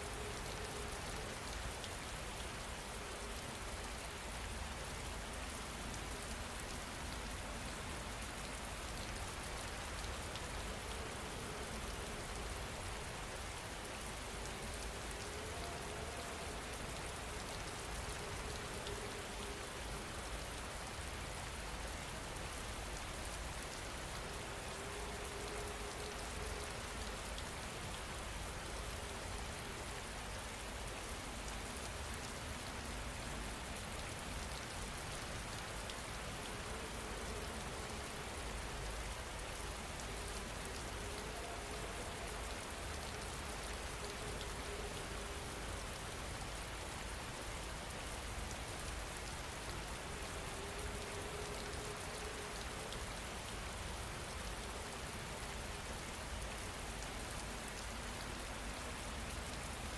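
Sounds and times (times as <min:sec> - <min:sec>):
rain patter: 0:00.0 - 0:59.9.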